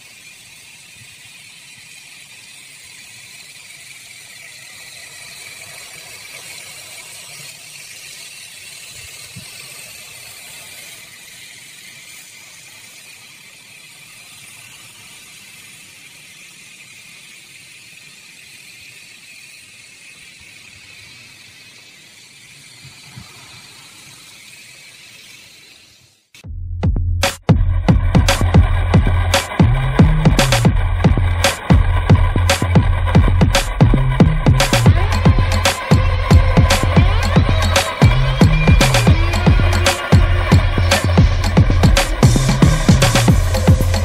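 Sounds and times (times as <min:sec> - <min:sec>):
model helicopter motor whine: 0:00.0 - 0:26.3, 0:27.8 - 0:44.0.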